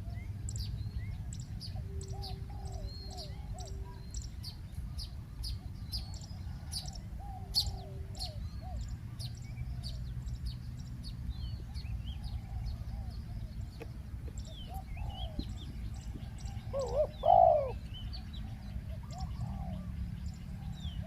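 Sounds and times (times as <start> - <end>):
small birds chirping: 0.0 - 21.0
doves cooing: 1.2 - 4.1, 5.0 - 10.2, 11.7 - 21.0.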